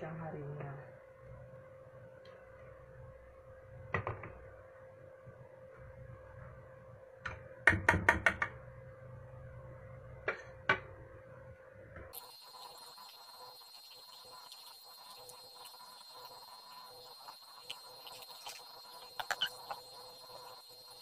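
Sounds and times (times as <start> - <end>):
faint steady hum: 0.0 - 7.7, 8.4 - 21.0.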